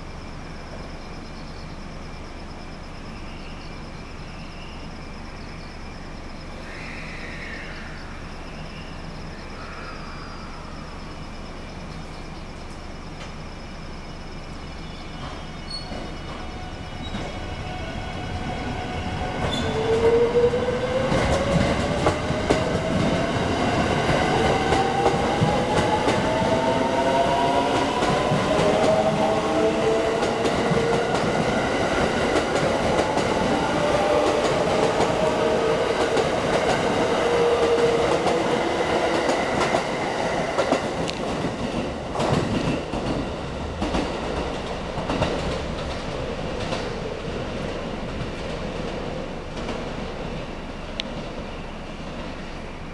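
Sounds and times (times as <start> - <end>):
train wheels rumbling on rails: 10.5 - 52.9.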